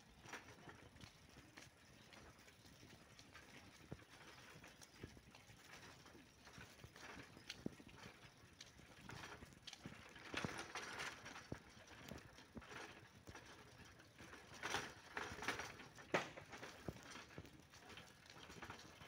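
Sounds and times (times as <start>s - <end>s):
bicycle rattling over brick paving: 0.0s - 19.0s.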